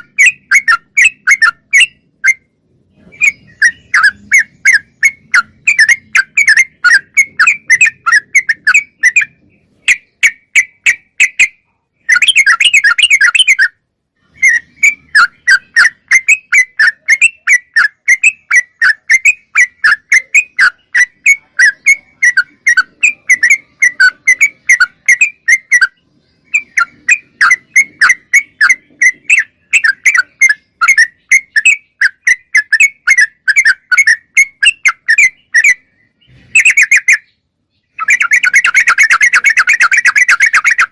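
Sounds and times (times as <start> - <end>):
bird singing rapid clear notes: 0.0 - 40.9.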